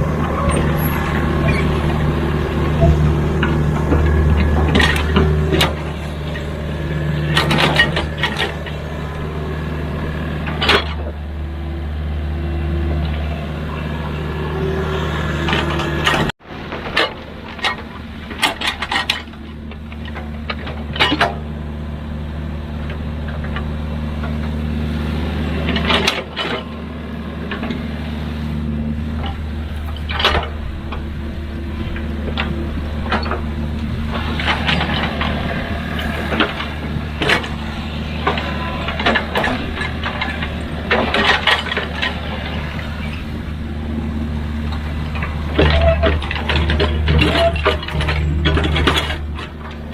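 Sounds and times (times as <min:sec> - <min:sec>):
construction machinery diesel engine: 0:00.0 - 0:49.9.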